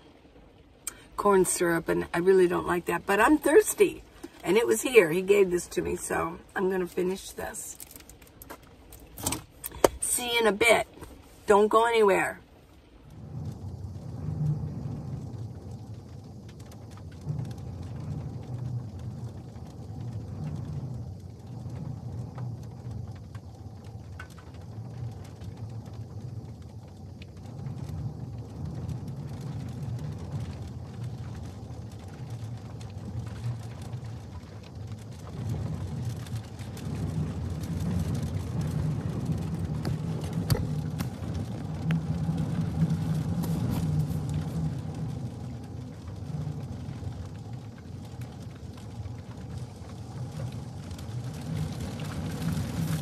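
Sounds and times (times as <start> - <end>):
faint rain ticks: 0.0 - 53.0
gusty storm wind buffeting: 0.0 - 53.0.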